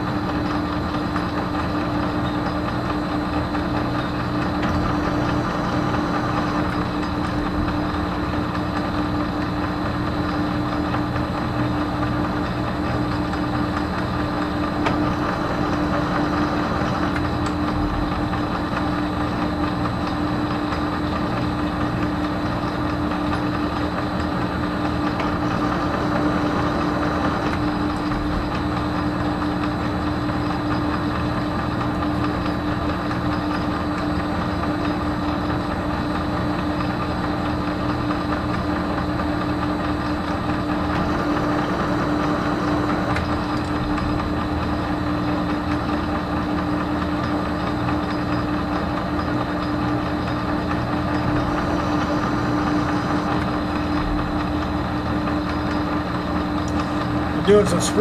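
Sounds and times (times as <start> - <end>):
metal lathe motor and gear hum: 0.0 - 58.0.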